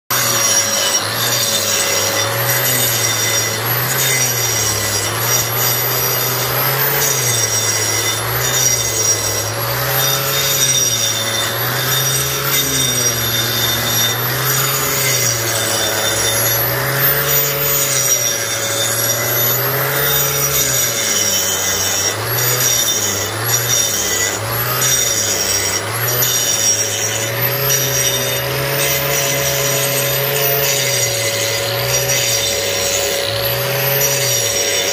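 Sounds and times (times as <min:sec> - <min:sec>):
angle grinder grinding concrete: 0:00.0 - 0:34.9.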